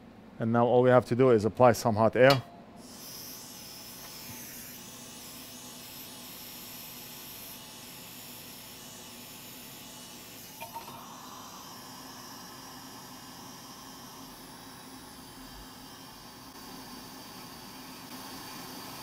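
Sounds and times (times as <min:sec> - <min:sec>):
hot air station hissing: 0:02.8 - 0:19.0.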